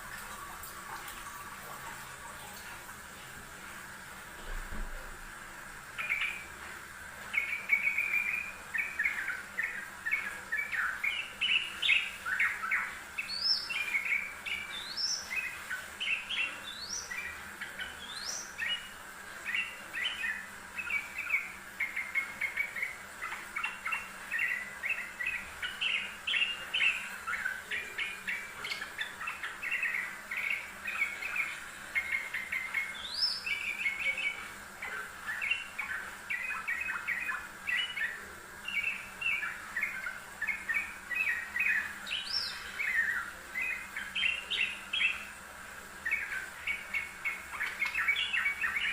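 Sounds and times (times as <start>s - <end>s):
bird singing chirping phrases: 5.9s - 6.6s, 7.3s - 48.9s.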